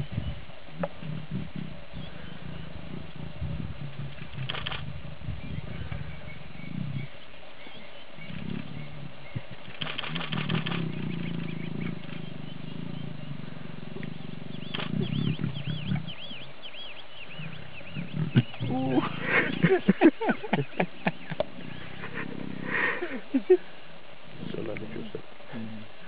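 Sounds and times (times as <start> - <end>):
lions low calls: 0.0 - 23.7.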